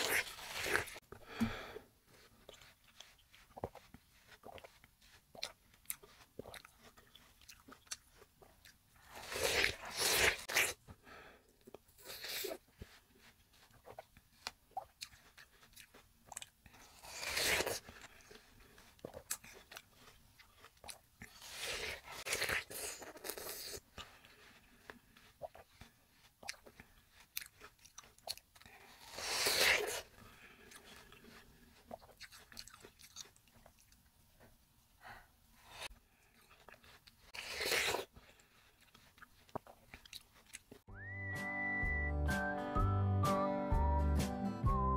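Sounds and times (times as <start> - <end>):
biting and chewing watermelon: 0.0 - 11.0, 11.6 - 34.6, 35.6 - 40.8.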